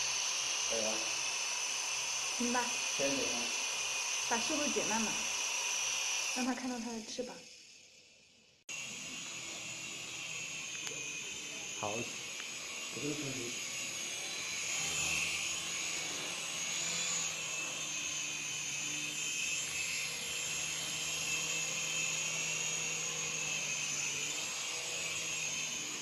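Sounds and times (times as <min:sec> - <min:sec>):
toy airplane motors whining: 0:00.0 - 0:26.0.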